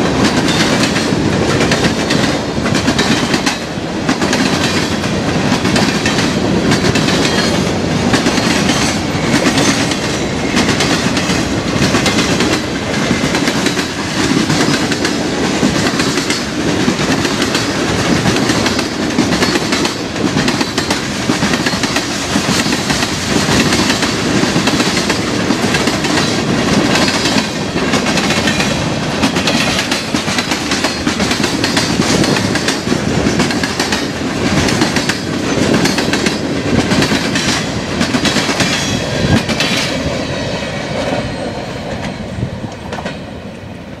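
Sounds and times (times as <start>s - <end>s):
freight train rumbling past: 0.0s - 44.0s
wheels clicking over rail joints: 0.1s - 40.2s.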